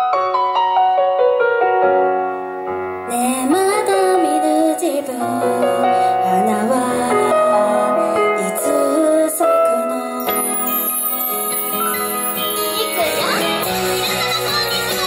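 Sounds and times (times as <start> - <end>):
pop song with piano: 2.8 - 15.0.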